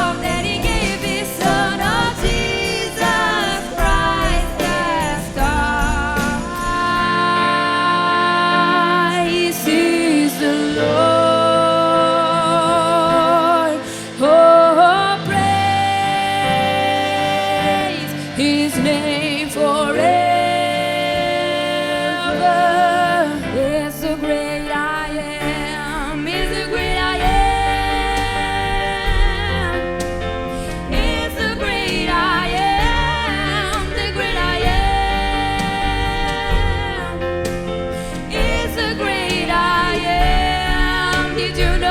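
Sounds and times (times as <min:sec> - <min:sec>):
live band playing: 0:00.0 - 0:41.9
woman singing with vibrato: 0:00.0 - 0:41.9.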